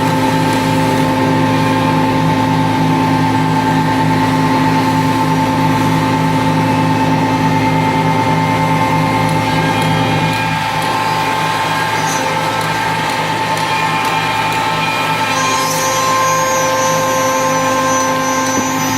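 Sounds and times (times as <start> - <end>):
router machine hum: 0.0 - 18.9.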